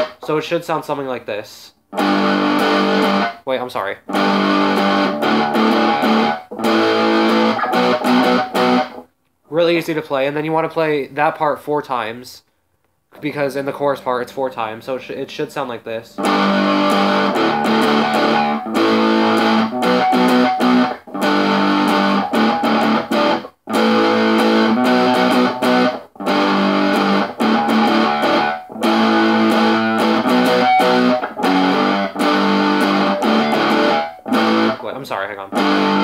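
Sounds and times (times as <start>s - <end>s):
electric guitar riff: 0.0s - 0.3s, 1.9s - 9.1s, 13.2s - 36.0s.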